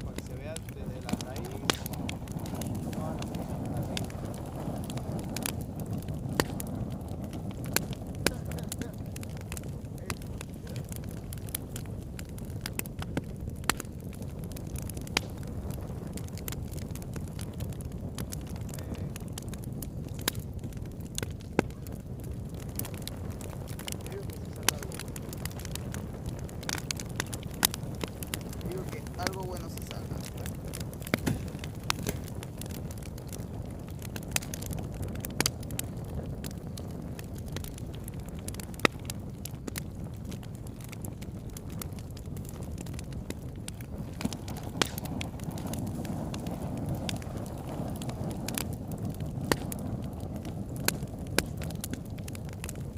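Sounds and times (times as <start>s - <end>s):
campfire crackling and popping: 0.0s - 52.9s
campfire flames rumbling: 0.0s - 52.9s.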